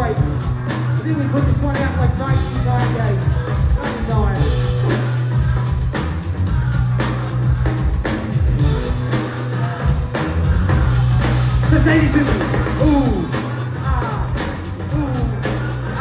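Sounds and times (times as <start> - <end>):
live band playing hip-hop groove: 0.0 - 16.0.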